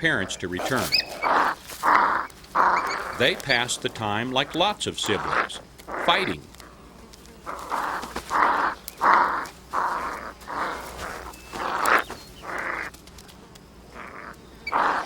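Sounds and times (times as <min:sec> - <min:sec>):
coyote pups growling: 0:00.0 - 0:15.0.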